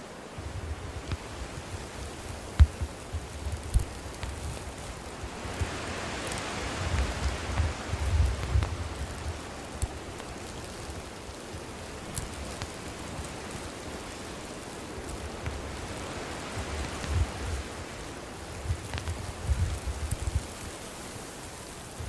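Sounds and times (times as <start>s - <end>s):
bonfire hissing: 0.0s - 22.0s
fire crackles and pops: 0.2s - 22.0s.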